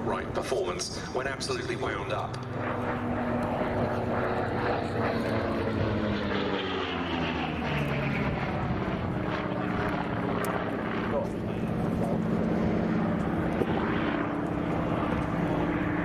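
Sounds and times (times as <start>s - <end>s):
aircraft radial engine passing: 0.0s - 16.0s.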